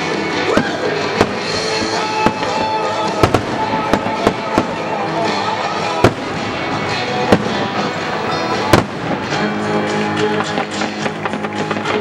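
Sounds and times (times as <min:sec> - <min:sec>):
firework bangs: 0:00.0 - 0:12.0
firework crackles: 0:00.0 - 0:12.0
music playing: 0:00.0 - 0:12.0.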